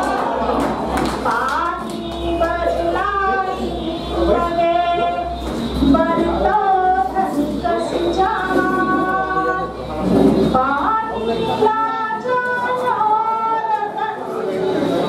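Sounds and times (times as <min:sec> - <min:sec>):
woman chanting melodically: 0:00.0 - 0:15.0.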